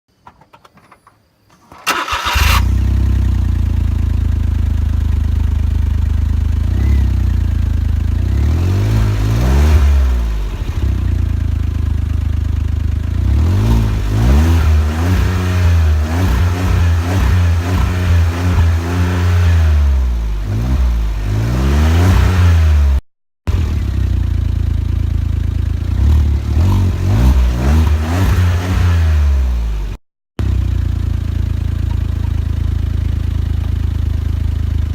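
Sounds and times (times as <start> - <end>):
car engine revving: 1.9 - 34.9.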